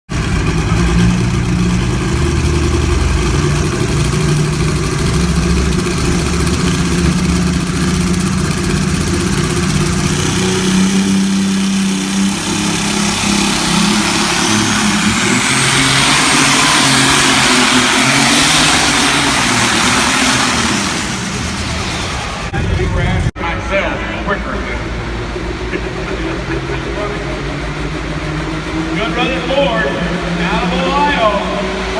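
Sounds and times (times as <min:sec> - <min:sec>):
tractor engine at high revs: 0:00.1 - 0:23.2, 0:24.2 - 0:31.9.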